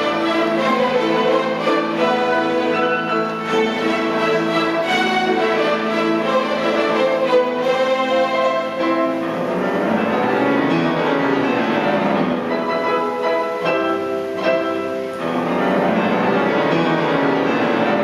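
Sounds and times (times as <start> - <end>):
pianos playing: 0.0 - 18.0
string orchestra playing: 0.0 - 18.0.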